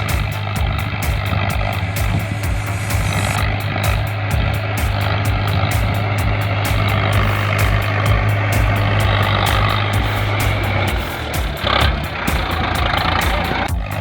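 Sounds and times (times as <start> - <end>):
tractor diesel engine clattering: 0.0 - 14.0.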